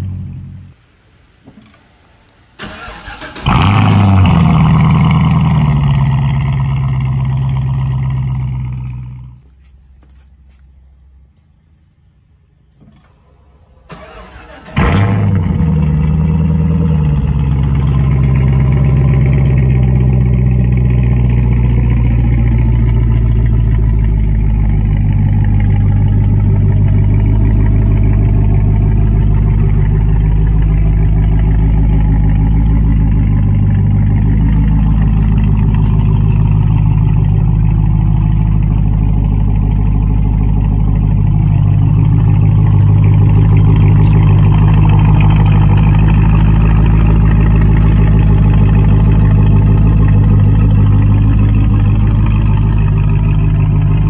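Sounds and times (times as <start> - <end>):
car engine cranking and starting: 0.0 - 10.7, 12.7 - 54.0
car engine fast idle: 1.6 - 9.3, 13.0 - 54.0.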